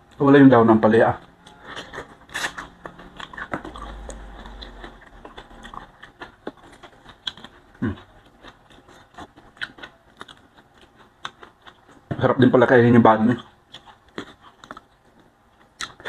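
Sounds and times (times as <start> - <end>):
person chewing: 0.9 - 12.2, 13.2 - 16.0.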